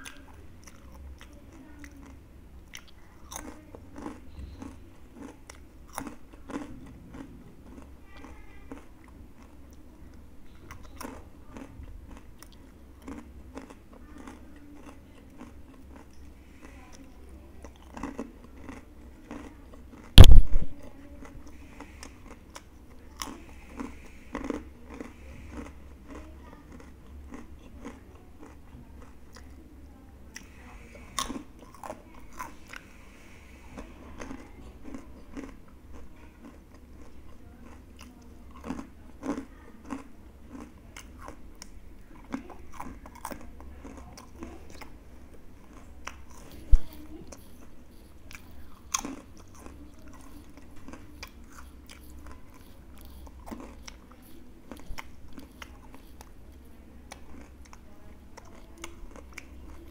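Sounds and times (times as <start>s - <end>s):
crunching and chewing crispy chips: 0.0s - 59.9s.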